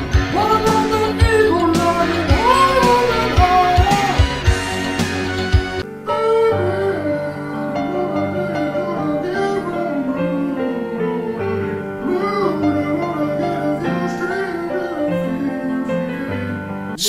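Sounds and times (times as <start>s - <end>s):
ballad music: 0.0s - 17.0s.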